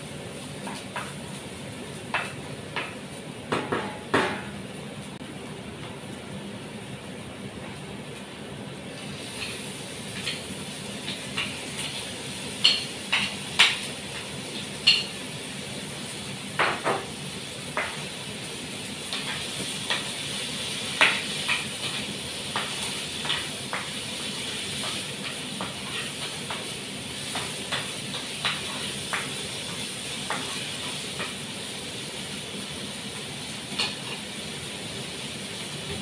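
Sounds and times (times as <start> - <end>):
chicken sizzling in frying pan: 0.0 - 36.0.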